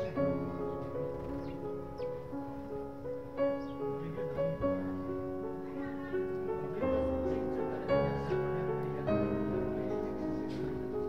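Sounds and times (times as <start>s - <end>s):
instrumental music of held chords: 0.0s - 11.0s.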